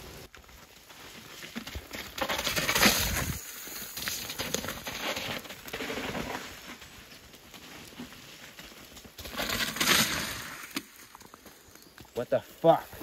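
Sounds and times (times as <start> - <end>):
bike tyres crunching over dirt: 0.0 - 13.0.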